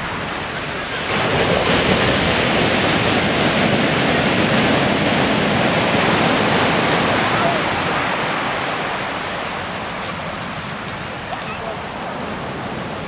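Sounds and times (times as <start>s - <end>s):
surf washing up shingle beach: 0.0s - 13.0s.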